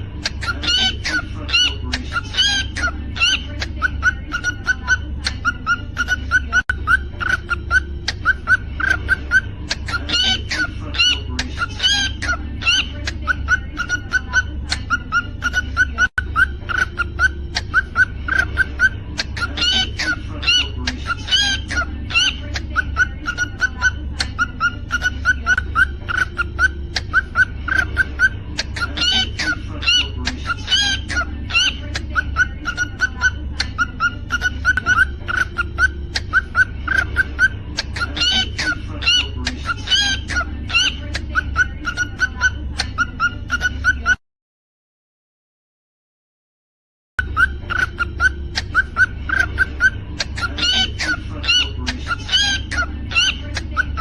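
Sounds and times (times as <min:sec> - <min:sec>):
cockatiel chirping: 0:00.0 - 0:44.2, 0:47.2 - 0:54.0
cockatiel whistling: 0:00.3 - 0:12.9, 0:13.5 - 0:43.7, 0:47.2 - 0:54.0.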